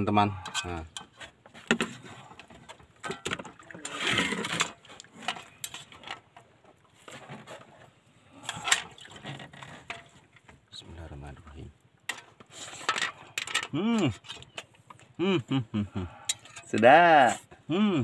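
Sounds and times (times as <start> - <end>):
rustle: 0.3 - 17.7.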